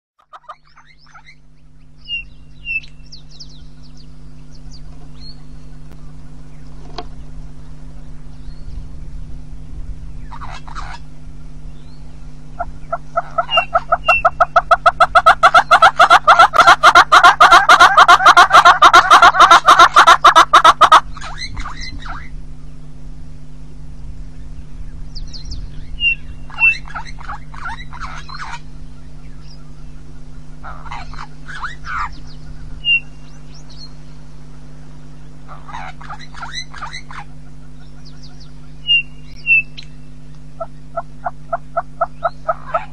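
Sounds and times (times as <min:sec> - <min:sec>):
hornbill calling: 0:00.2 - 0:08.6, 0:10.2 - 0:22.8, 0:25.2 - 0:42.9.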